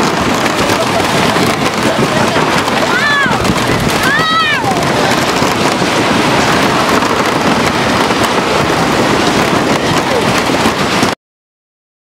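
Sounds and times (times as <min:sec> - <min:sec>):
roller coaster rattling on track: 0:00.0 - 0:11.2.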